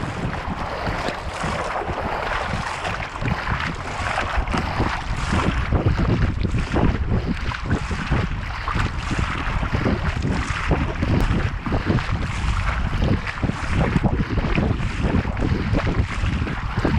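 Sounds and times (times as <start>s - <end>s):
water rushing and splashing: 0.0s - 16.9s
wind buffeting microphone: 0.0s - 16.9s.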